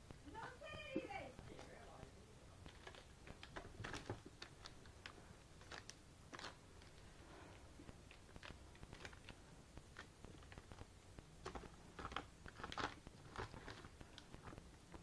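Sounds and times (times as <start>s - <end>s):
plastic shrink-wrap crinkling: 2.5s - 15.0s.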